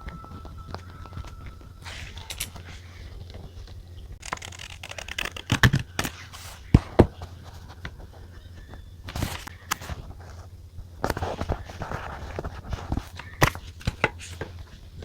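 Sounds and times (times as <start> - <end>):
low steady hum: 0.0 - 15.0
paper rustling and scraping: 0.0 - 15.0.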